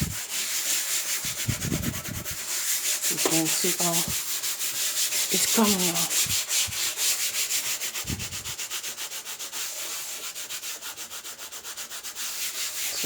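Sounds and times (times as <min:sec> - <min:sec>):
scrubbing strokes on oven surface: 0:00.0 - 0:13.0.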